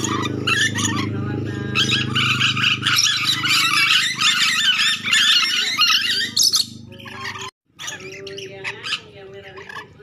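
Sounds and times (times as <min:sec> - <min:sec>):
lorikeets chattering: 0:00.0 - 0:10.0.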